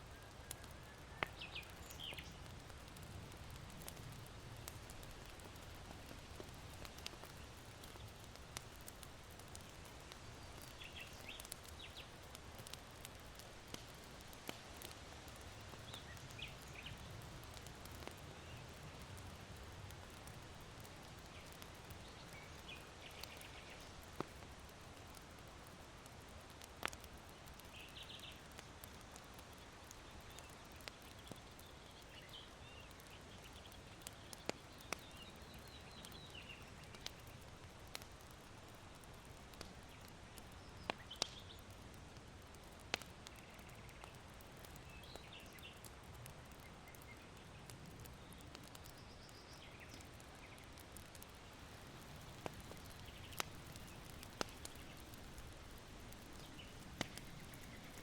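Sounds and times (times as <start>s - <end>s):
small birds chirping: 0.0s - 19.1s, 20.0s - 25.2s, 26.6s - 42.0s, 42.6s - 58.0s
charcoal popping and crackling: 0.0s - 58.0s.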